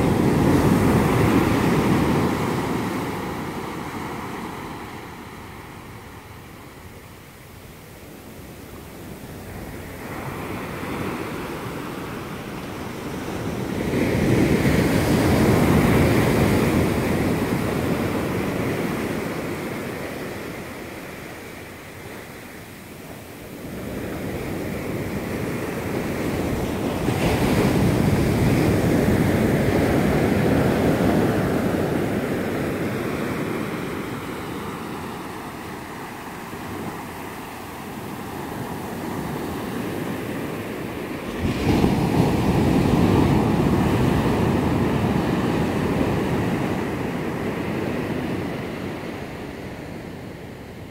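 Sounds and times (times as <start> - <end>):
small waves breaking on beach: 0.0 - 50.9.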